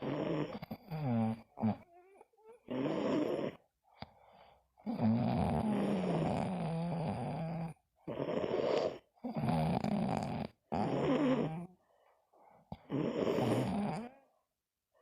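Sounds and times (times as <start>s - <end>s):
person snoring: 0.0s - 3.6s, 4.8s - 11.8s, 12.7s - 14.2s.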